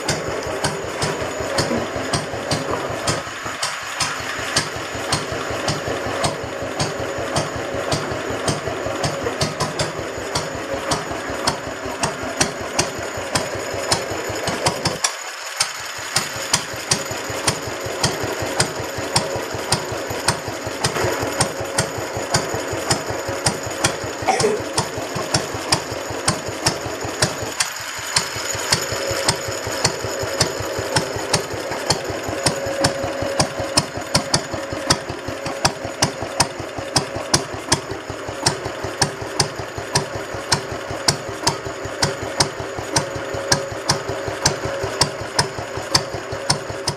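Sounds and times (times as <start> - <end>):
stationary engine running: 0.0 - 46.9.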